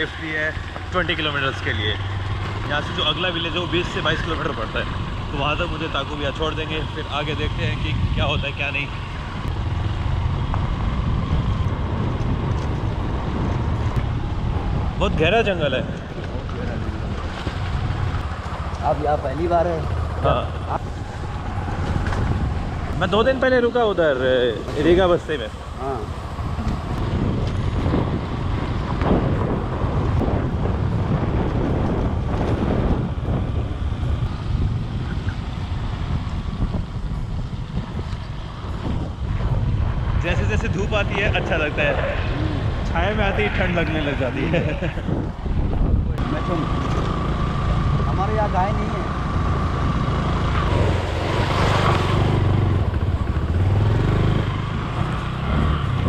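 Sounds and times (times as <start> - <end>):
motorcycle engine running: 0.0 - 56.0
tyres on gravel road: 0.0 - 56.0
wind buffeting microphone: 0.0 - 56.0.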